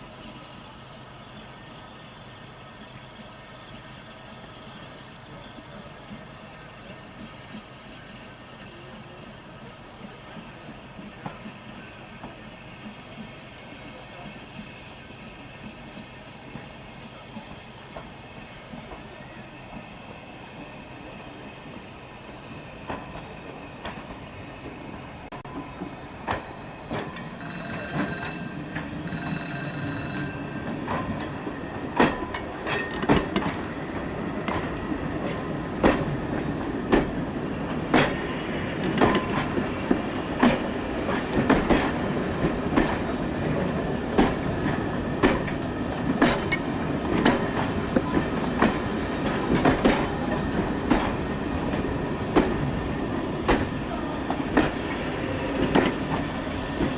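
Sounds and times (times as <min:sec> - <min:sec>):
steam train approaching: 0:00.0 - 0:56.9.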